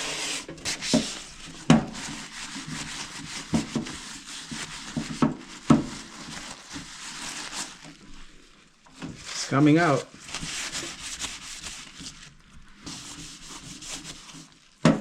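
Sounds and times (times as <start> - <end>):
scratchy scrubbing on glass: 0.0 - 7.8, 10.2 - 14.6.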